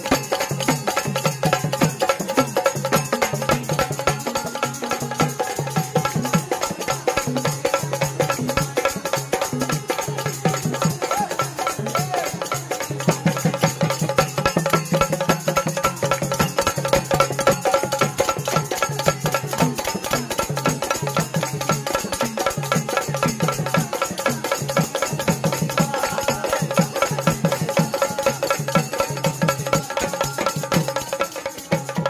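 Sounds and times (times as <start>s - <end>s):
fast hand drum rhythm: 0.0s - 32.0s.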